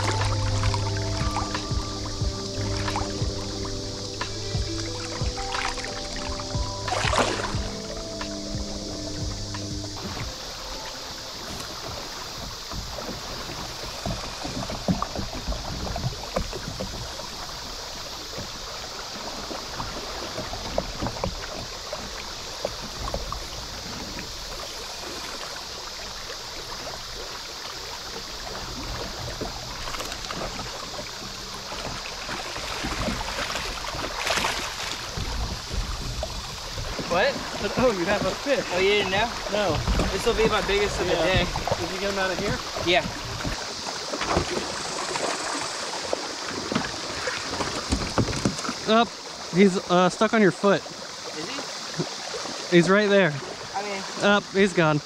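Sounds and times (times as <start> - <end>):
small splashes and knocks: 0.0 - 8.4, 9.5 - 49.5
fish splashing: 0.0 - 49.5
river current rushing: 0.0 - 55.0.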